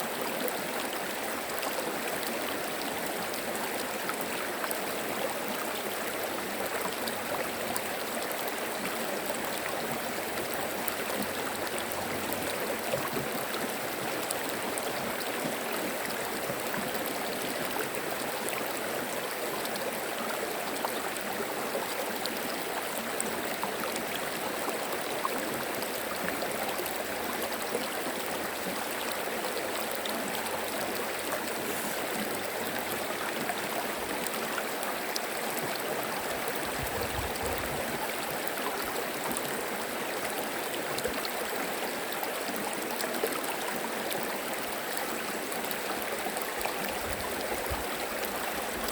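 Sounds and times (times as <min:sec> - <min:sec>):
stream babbling over stones: 0:00.0 - 0:48.9.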